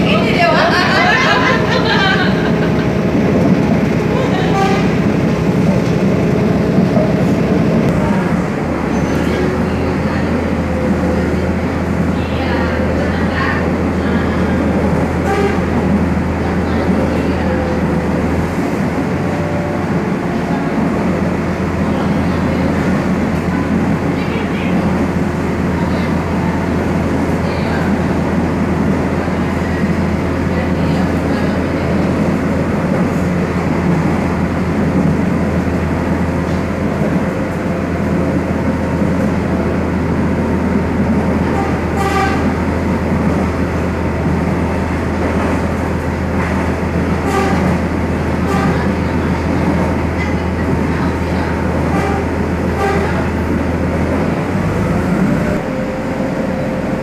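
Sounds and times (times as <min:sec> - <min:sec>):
train rolling on rails: 0:00.0 - 0:57.0.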